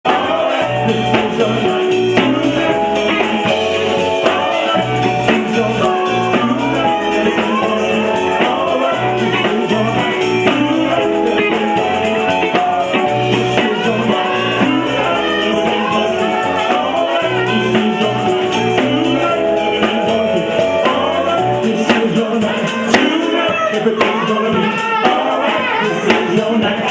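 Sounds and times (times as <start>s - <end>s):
bass line: 0.0s - 24.6s
live soul band playing: 0.0s - 26.9s.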